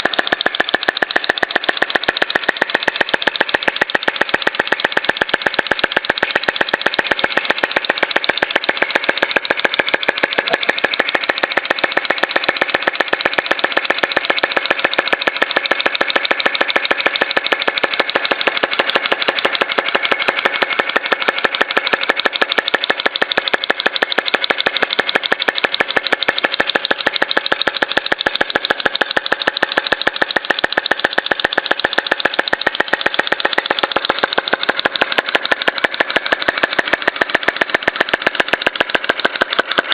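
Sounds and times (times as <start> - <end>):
model engine clicking: 0.0 - 39.9.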